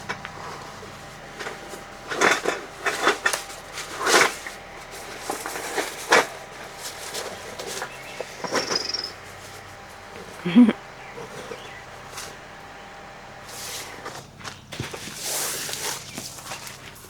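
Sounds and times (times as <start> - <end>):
objects rustling and knocking: 0.0 - 17.0.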